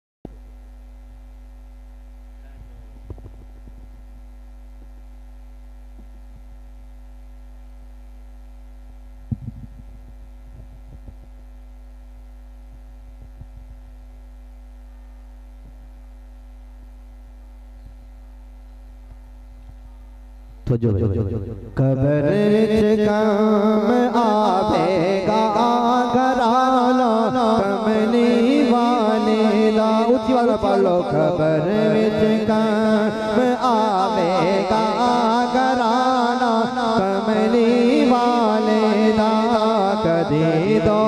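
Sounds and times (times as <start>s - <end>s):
electrical mains hum: 0.3s - 41.0s.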